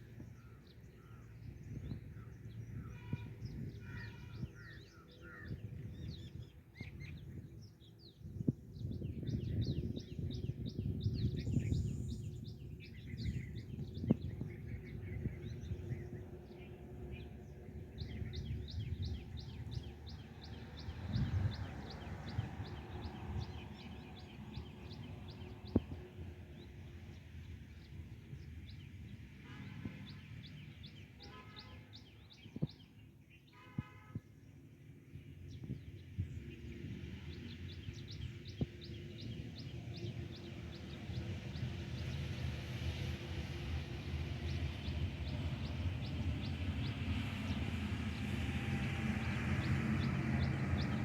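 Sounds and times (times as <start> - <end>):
wind rumble on microphone: 0.0 - 51.0.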